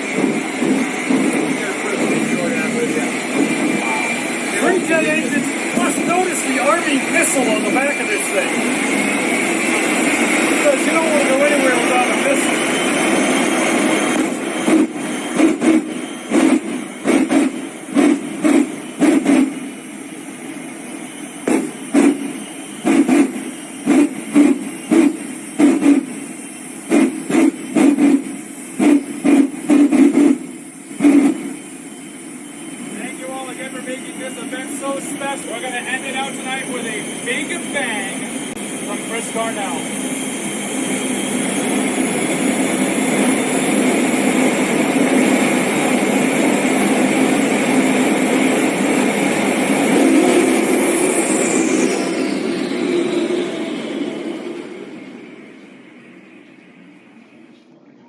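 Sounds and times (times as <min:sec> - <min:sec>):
jet engine afterburner pulses: 0:00.0 - 0:57.5.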